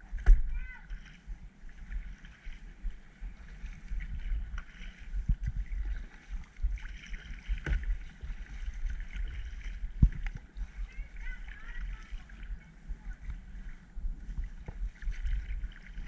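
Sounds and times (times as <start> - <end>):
water splashing at paddle: 0.0 - 16.0
wind rumble on microphone: 0.0 - 16.0.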